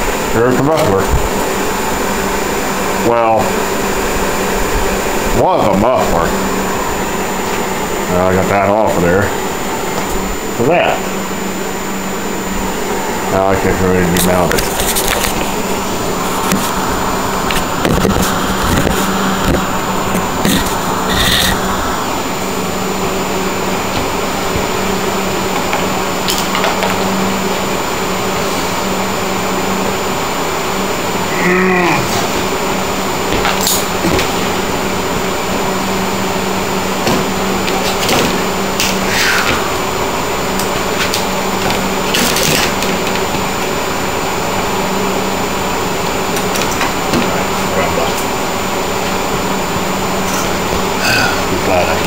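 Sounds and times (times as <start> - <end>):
motor hum: 0.0 - 52.0.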